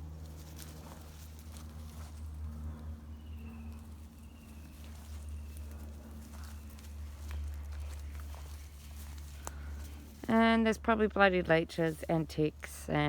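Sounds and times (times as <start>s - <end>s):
footsteps through undergrowth: 0.0s - 12.7s
steady low rumble: 0.0s - 13.0s.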